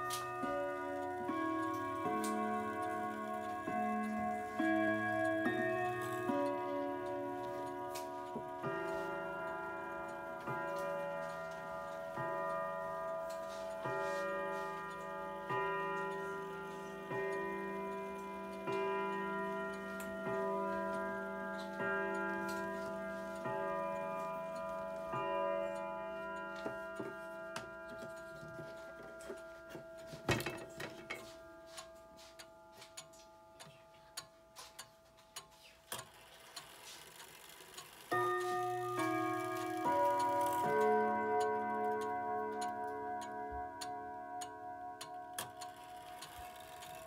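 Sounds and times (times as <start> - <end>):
wall clock gong striking: 0.0 - 33.4, 37.3 - 47.0.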